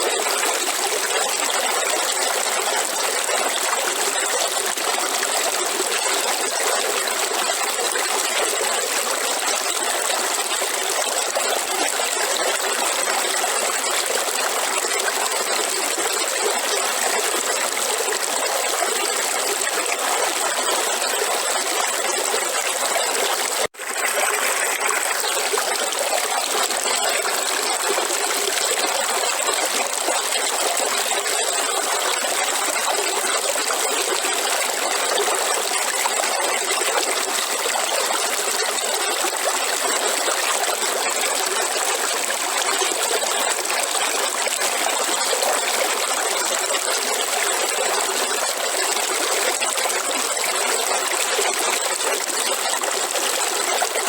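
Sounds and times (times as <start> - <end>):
river water flowing: 0.0 - 17.4, 18.0 - 54.0.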